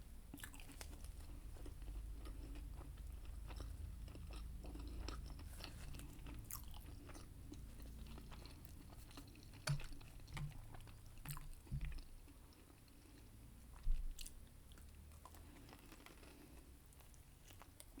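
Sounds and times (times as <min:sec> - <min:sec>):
close chewing with mouth clicks: 0:00.3 - 0:18.0.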